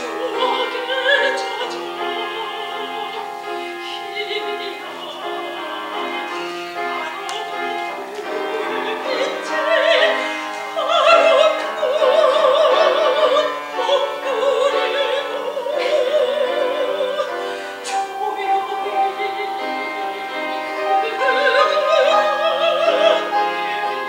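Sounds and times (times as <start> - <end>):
grand piano: 0.0 - 24.0
soprano singing operatic song: 0.0 - 24.0.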